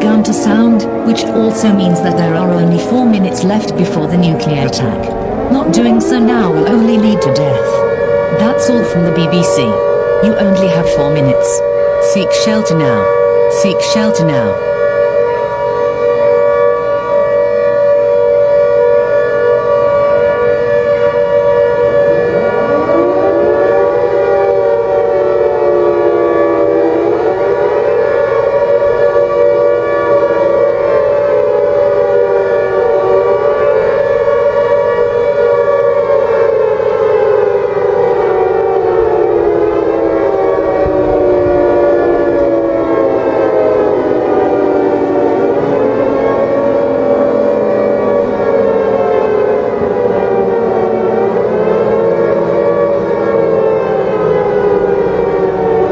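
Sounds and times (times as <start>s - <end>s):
siren steady tone: 0.0s - 55.9s
siren wailing up and down: 0.0s - 55.9s.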